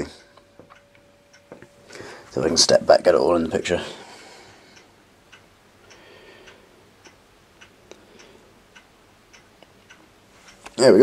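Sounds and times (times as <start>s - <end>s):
faint regular ticking: 0.0s - 11.0s.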